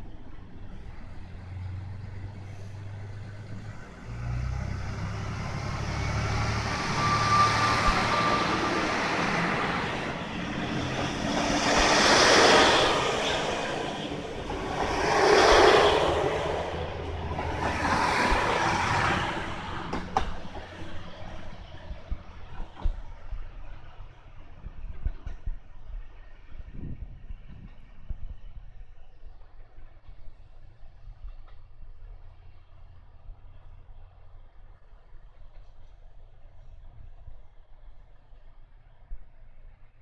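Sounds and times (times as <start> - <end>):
train wheel noise: 0.0 - 39.0
diesel train engine: 0.0 - 40.0.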